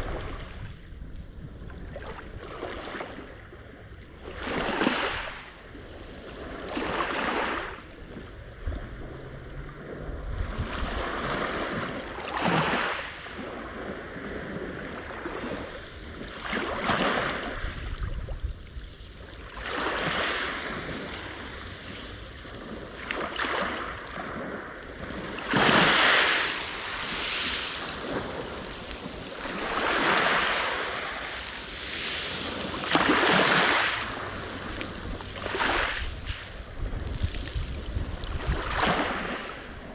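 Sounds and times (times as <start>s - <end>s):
sea waves breaking: 0.0s - 39.9s
wind on microphone: 0.0s - 39.9s.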